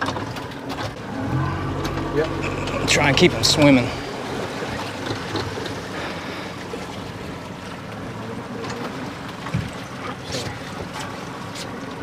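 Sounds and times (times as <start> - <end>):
outboard motor running: 0.0 - 12.0
water washing along hull: 0.0 - 12.0.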